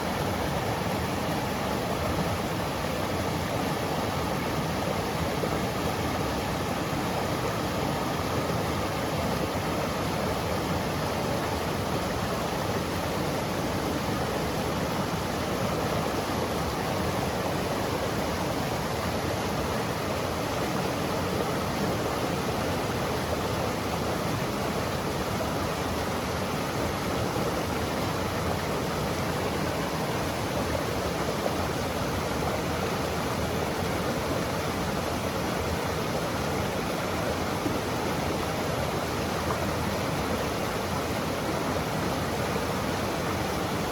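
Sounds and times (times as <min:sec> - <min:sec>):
stream flowing over rocks: 0:00.0 - 0:43.9.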